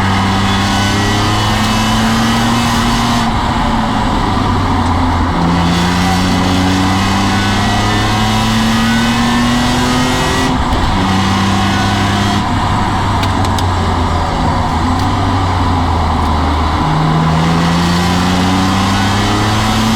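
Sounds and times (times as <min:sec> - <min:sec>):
car engine pulling hard: 0:00.0 - 0:19.9.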